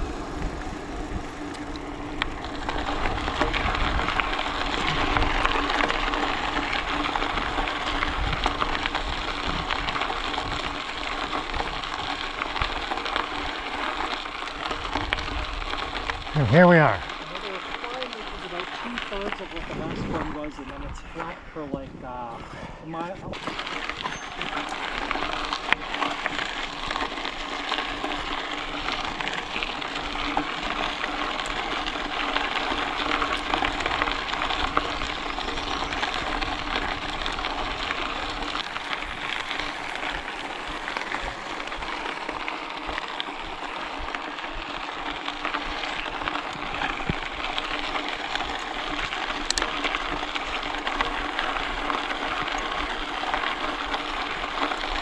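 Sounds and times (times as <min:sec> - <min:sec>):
small ticks: 0:00.0 - 0:16.3, 0:23.4 - 0:55.0
bicycle tyres rolling on trail: 0:00.0 - 0:55.0.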